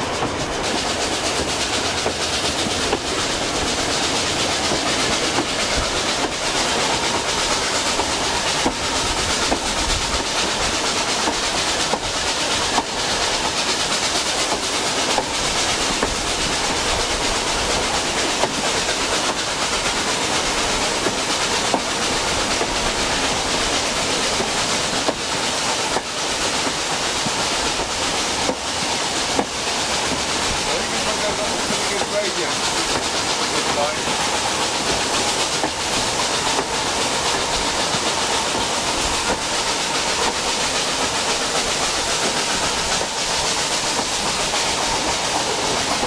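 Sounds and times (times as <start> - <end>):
train wheels rushing on rails: 0.0 - 46.0
wheels clicking over rail joints: 0.0 - 46.0.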